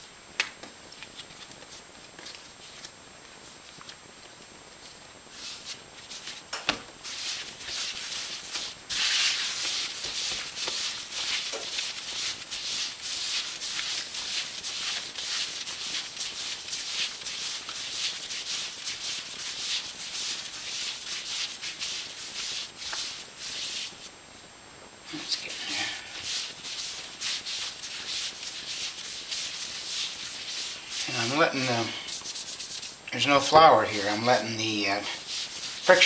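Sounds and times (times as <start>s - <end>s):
dough rubbing on tile countertop: 4.8s - 24.1s, 25.2s - 36.0s.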